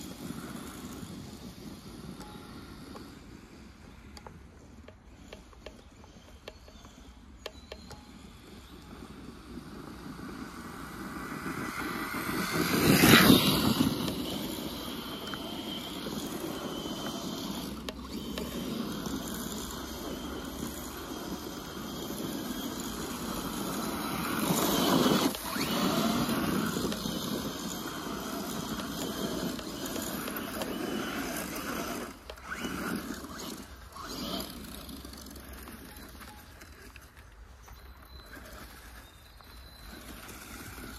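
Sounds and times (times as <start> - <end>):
off-road vehicle rattling over trail: 7.6 - 40.9.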